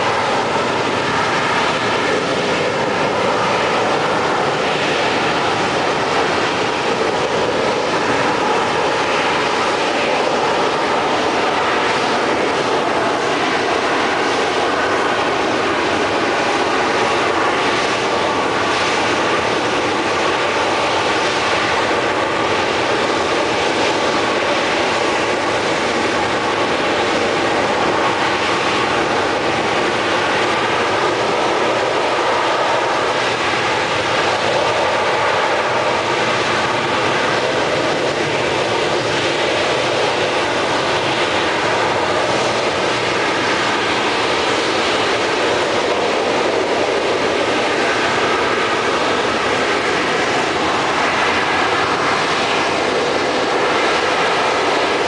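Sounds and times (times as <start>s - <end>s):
jet engine roar with whine: 0.0s - 55.0s.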